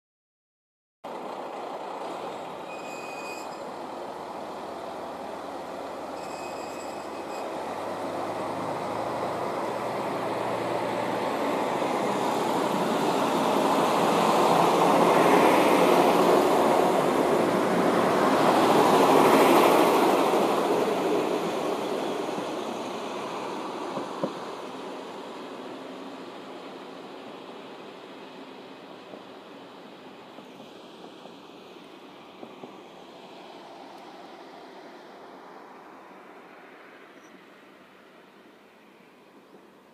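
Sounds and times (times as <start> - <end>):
train wheels on rails: 1.1 - 37.5
diesel railcar engine: 1.1 - 39.9.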